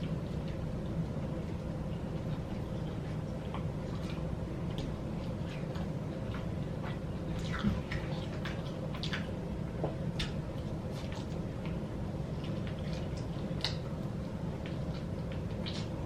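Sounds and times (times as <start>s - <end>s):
lip smacks and mouth clicks: 0.0s - 11.8s, 12.4s - 16.0s.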